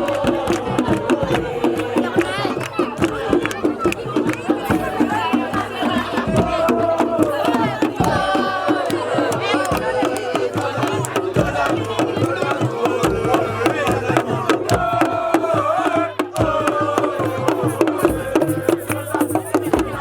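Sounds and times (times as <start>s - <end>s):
percussion with sharp drum strokes: 0.0s - 20.0s.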